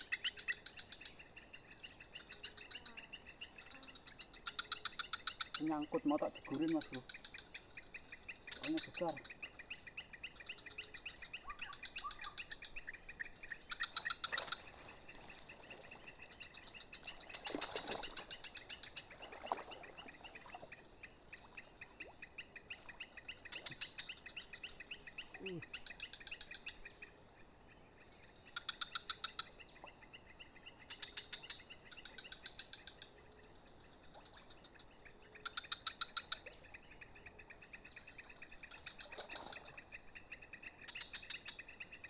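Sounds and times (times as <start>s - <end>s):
insects droning: 0.0s - 42.0s
rapid pulsing insect chirps: 0.0s - 42.0s.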